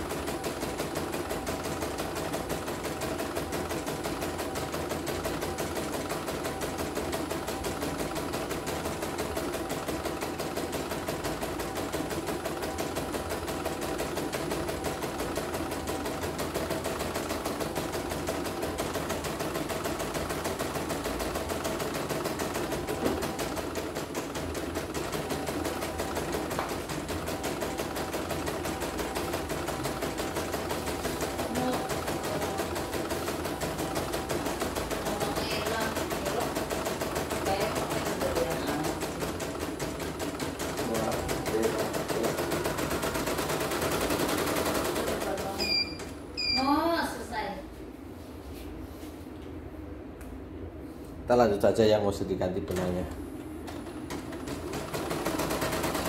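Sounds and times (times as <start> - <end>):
embroidery machine stitching: 0.0 - 45.6, 53.7 - 56.0.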